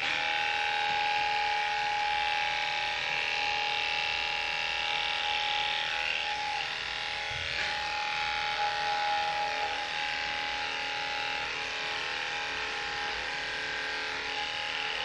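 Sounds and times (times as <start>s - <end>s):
electric clippers humming: 0.0s - 15.0s.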